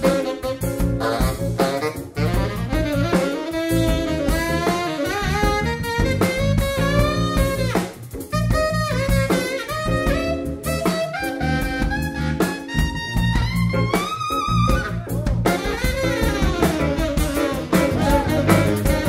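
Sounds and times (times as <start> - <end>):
jazz-funk band playing: 0.0 - 19.0
tenor saxophone melody: 0.0 - 19.0.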